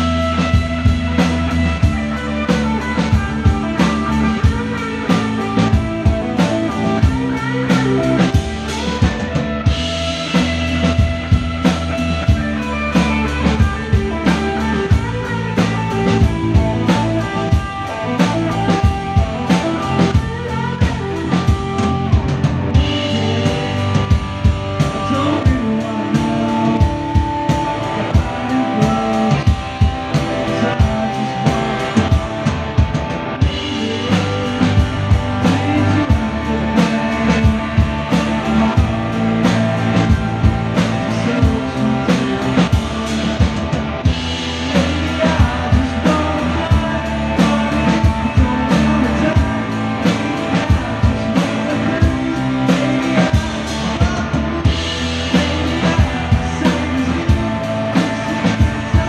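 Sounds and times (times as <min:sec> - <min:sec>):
drum kit beat: 0:00.0 - 0:59.0
electric guitars: 0:00.0 - 0:59.0.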